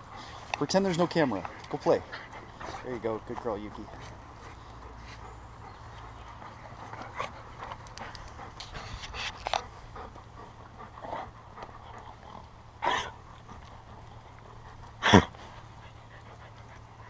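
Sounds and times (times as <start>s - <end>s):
dogs panting and scuffling: 0.0s - 17.0s.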